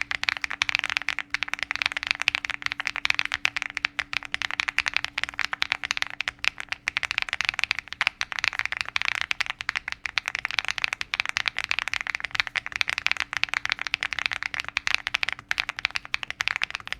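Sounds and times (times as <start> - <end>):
mechanical keyboard typing: 0.0 - 16.9.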